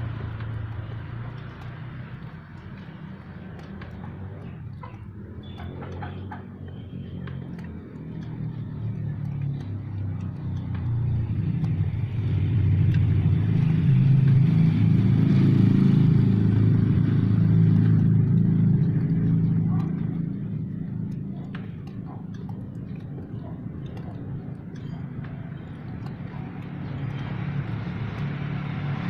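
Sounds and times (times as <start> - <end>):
vehicle engine approaching: 0.0 - 29.0.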